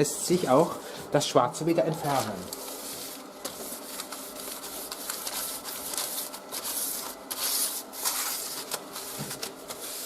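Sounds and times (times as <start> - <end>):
newspaper rubbing on glass: 1.7 - 10.0.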